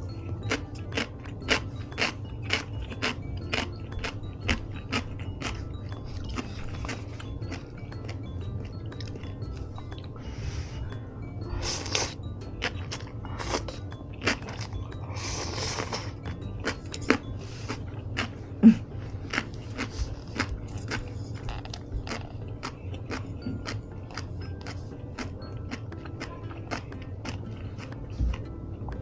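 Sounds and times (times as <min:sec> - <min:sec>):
chewing crunchy food: 0:00.2 - 0:10.2, 0:11.4 - 0:29.0.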